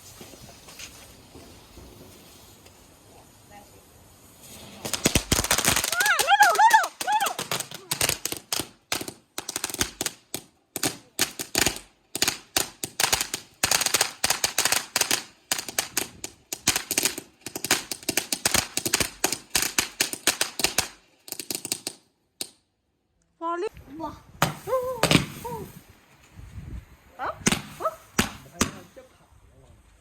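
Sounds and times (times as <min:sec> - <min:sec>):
crackling firework: 0:00.0 - 0:22.7, 0:24.2 - 0:30.0.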